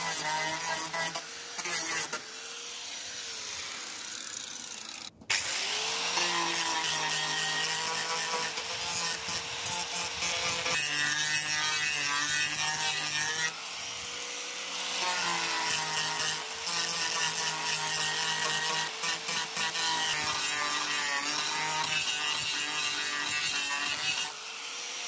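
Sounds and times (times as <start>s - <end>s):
angle grinder sanding metal: 0.0s - 25.0s.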